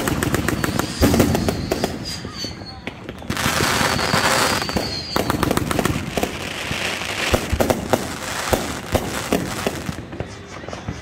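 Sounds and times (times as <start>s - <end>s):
fireworks cracks and bangs: 0.0s - 11.0s
fireworks hissing rush: 0.0s - 11.0s.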